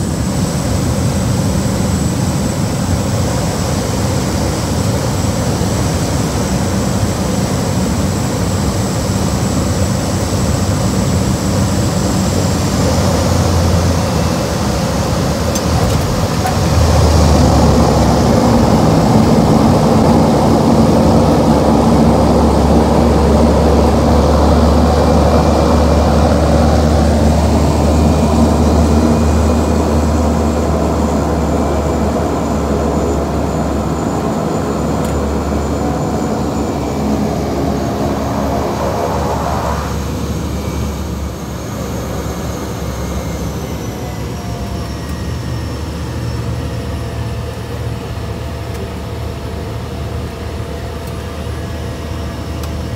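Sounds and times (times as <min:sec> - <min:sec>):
turboprop engine and propeller: 0:00.0 - 0:52.9.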